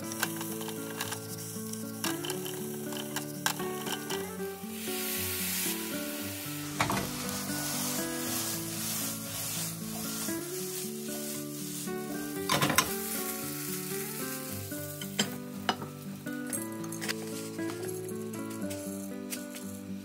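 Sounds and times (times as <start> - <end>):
rice sizzling in a frying pan: 0.0 - 20.0.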